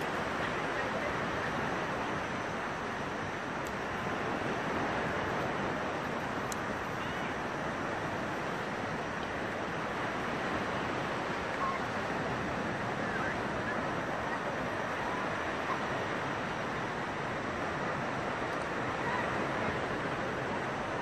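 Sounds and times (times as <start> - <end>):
small waves washing: 0.0 - 21.0.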